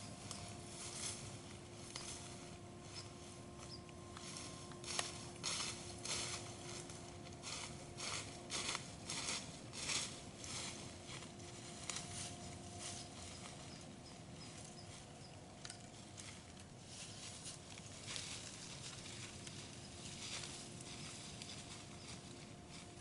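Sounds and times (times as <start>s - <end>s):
faint steady hum: 0.0s - 23.0s
rustling and crackling leaves: 0.0s - 23.0s.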